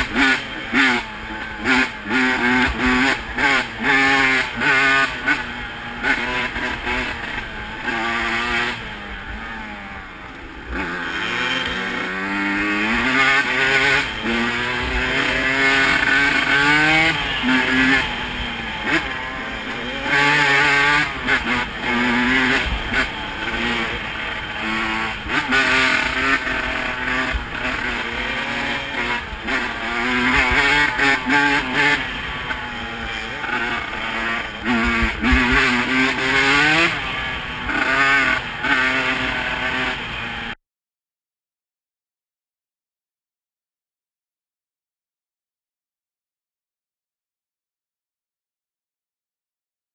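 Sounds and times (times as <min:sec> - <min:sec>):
motorcycle engine revving: 0:00.0 - 0:40.6.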